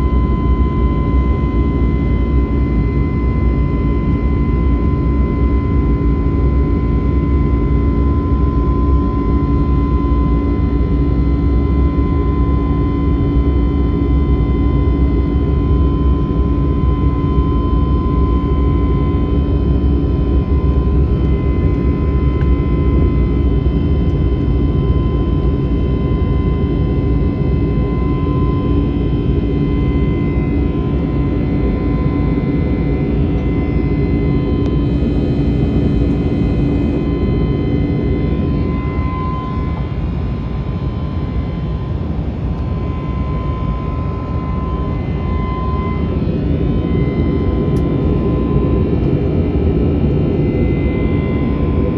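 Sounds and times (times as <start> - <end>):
jet engine noise in cabin: 0.0 - 51.9.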